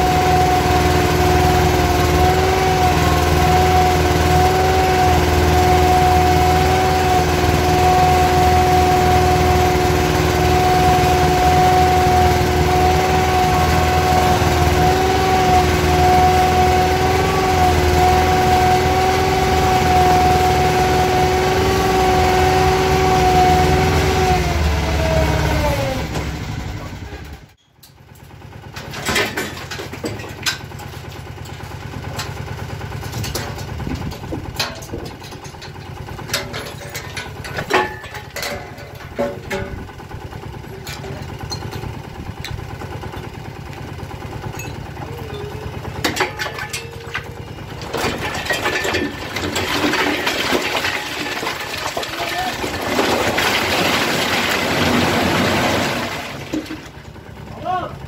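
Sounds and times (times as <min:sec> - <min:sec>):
engine running: 0:00.0 - 0:58.0
quieter engine with knocks: 0:00.0 - 0:58.0.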